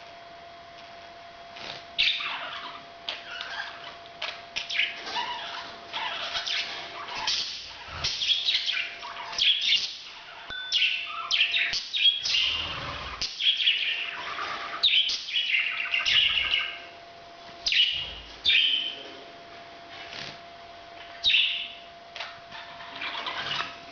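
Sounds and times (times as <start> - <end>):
parrots chirping and chattering: 2.0 - 16.9, 17.6 - 19.2, 21.0 - 23.8.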